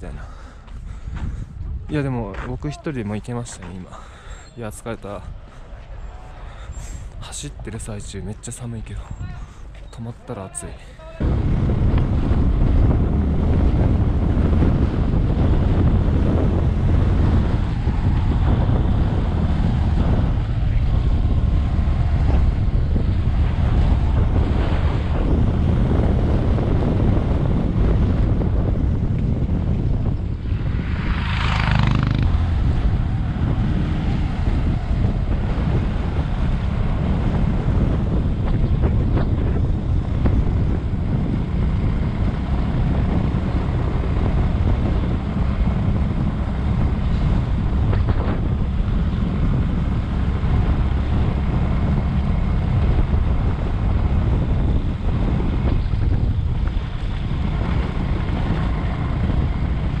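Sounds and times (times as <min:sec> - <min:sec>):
wind buffeting microphone: 0:00.0 - 1:00.0
motorcycle running: 0:11.2 - 1:00.0.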